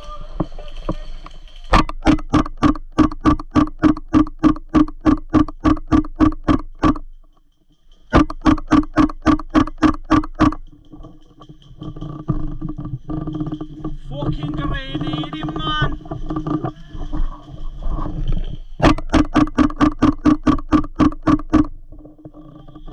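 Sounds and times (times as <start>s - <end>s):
buzzing rattle: 0.0s - 22.9s.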